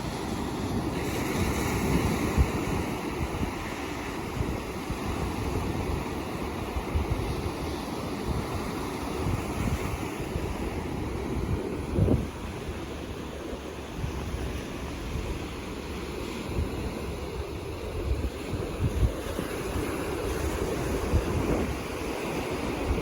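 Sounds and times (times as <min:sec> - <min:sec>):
low wind rumble: 0:00.0 - 0:23.0
ocean surf washing ashore: 0:00.0 - 0:23.0.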